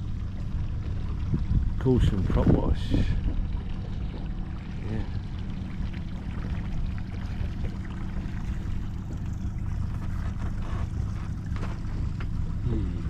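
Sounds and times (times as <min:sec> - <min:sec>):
boat motor humming: 0:00.0 - 0:13.0
water rushing along hull: 0:00.0 - 0:13.0.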